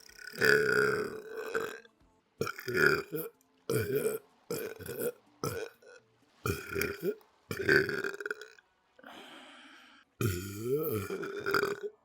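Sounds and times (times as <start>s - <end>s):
person belching: 0.0s - 8.6s, 10.2s - 12.0s.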